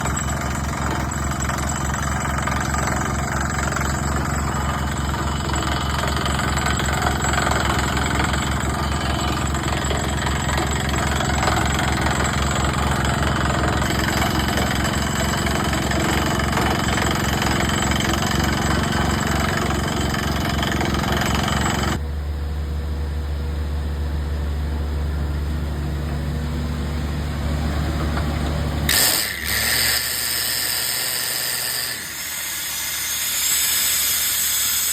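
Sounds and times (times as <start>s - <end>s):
drill rig mechanical clatter: 0.0s - 22.0s, 28.0s - 34.9s
rig engine running: 0.0s - 34.9s.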